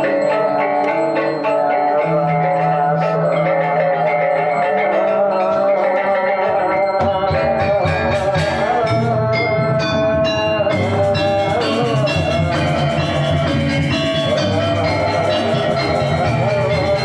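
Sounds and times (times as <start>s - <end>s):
gamelan metallophones and gongs: 0.0s - 17.0s.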